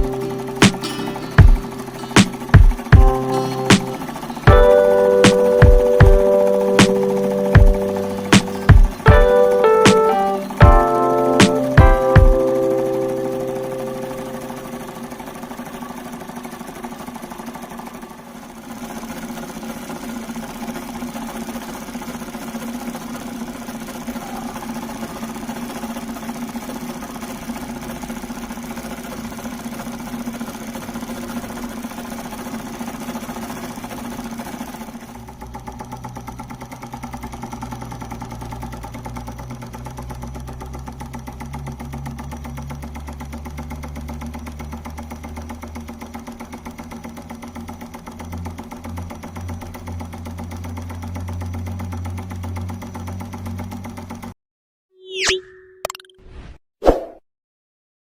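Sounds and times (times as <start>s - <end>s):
solenoid engine clattering: 0.0s - 54.3s.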